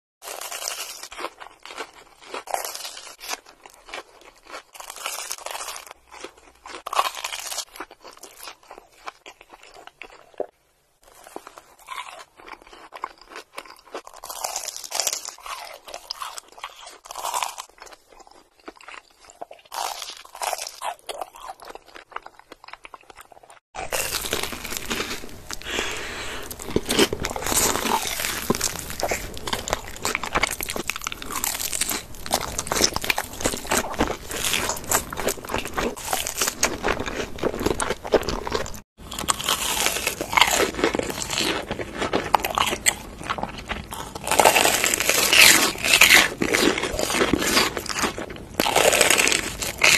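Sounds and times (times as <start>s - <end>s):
crunching and chewing food: 0.2s - 49.9s.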